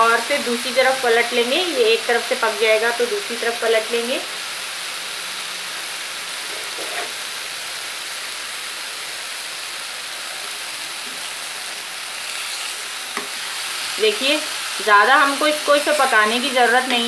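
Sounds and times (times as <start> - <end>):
paneer sizzling in oil: 0.0 - 17.0.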